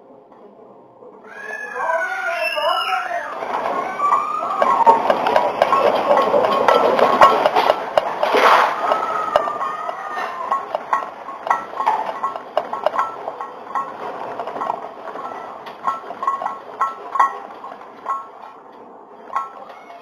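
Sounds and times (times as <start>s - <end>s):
household objects rattling: 3.3s - 19.7s.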